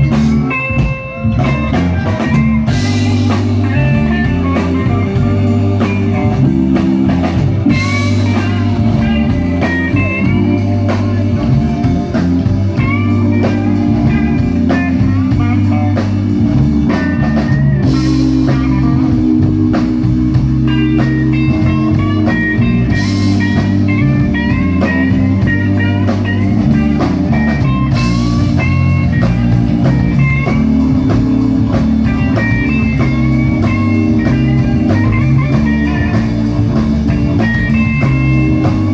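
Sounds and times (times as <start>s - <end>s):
bass: 0.0s - 38.9s
drums: 0.0s - 38.9s
electric guitar solo: 0.0s - 38.9s.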